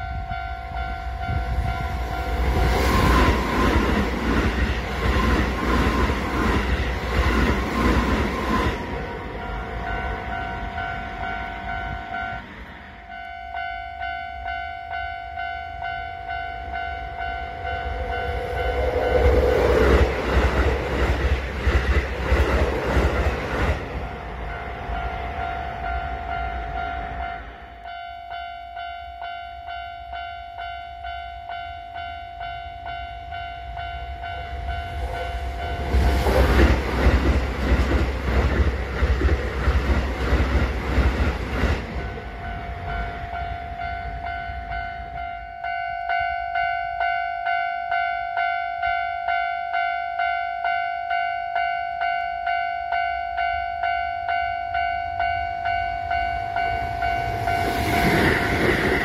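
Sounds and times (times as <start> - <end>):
level crossing alarm bell: 0.0 - 20.1, 24.3 - 36.8, 42.0 - 59.0
train rumbling past: 0.0 - 48.0, 52.9 - 59.0.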